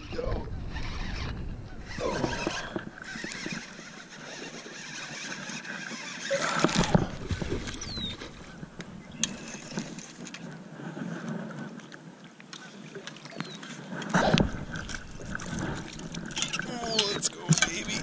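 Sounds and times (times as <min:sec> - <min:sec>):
knocks and rustling in boat: 0:00.1 - 0:18.0.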